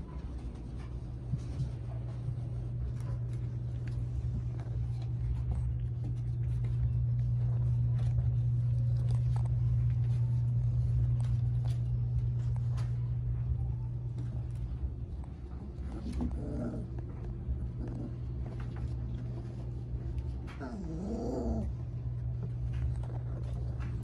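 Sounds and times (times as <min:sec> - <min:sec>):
puppies' paws scrabbling on plastic: 0:00.0 - 0:24.0
steady low hum: 0:00.0 - 0:24.0.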